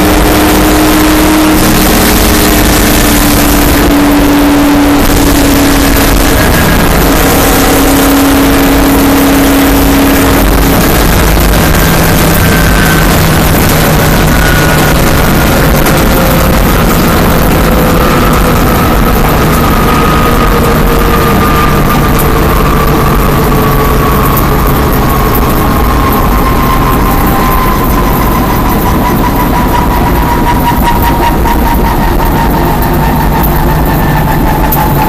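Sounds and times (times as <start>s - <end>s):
race car engine running loud: 0.0s - 35.0s.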